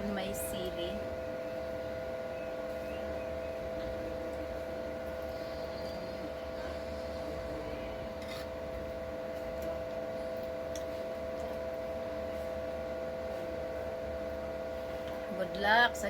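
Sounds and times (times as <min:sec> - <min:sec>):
two-pitch room hum: 0:00.0 - 0:16.0.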